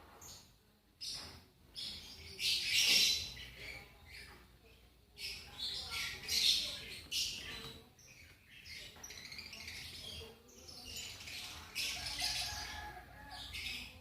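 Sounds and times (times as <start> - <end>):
lovebirds chirping and chattering: 0.0 - 14.0.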